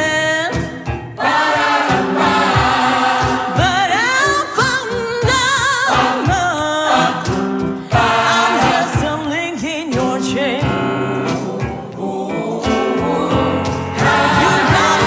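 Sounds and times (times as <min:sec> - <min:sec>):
gospel choir singing: 0:00.0 - 0:15.0
steady drum beat: 0:00.5 - 0:12.0, 0:12.6 - 0:15.0.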